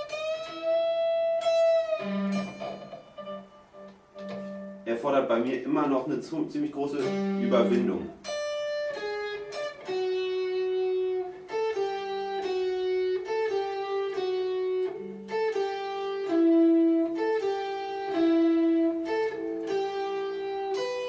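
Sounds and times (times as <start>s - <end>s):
guitar single-note melody: 0.0s - 21.0s.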